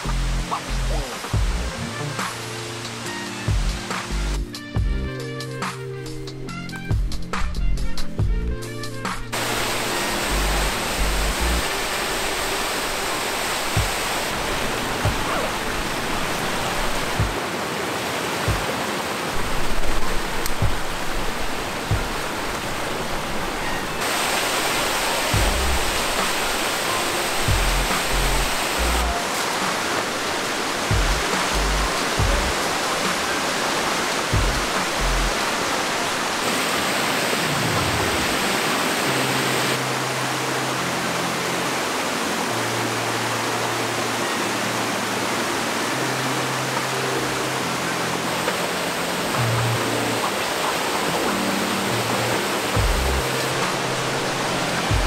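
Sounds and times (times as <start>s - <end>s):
mountain stream rushing: 0.0s - 4.6s, 9.0s - 55.0s
low background music: 0.0s - 17.4s, 19.4s - 36.5s, 37.5s - 55.0s.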